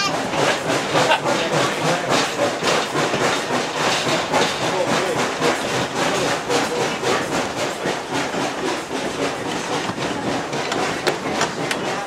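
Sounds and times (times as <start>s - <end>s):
train car rattling on track: 0.0s - 12.0s.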